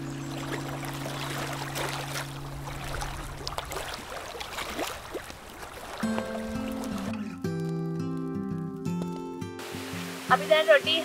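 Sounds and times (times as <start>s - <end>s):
stream water rushing over rocks: 0.0s - 7.3s, 9.1s - 11.0s.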